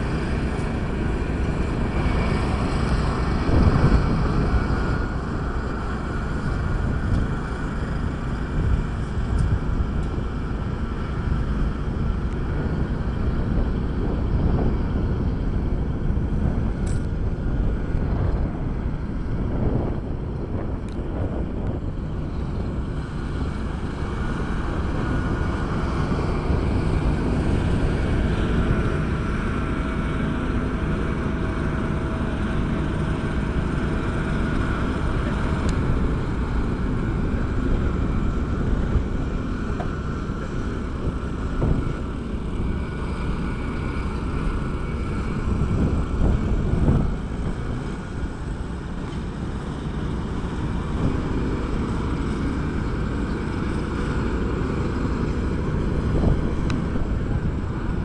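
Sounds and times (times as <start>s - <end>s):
diesel engines running: 0.0s - 58.0s
faint steady whine: 0.0s - 58.0s.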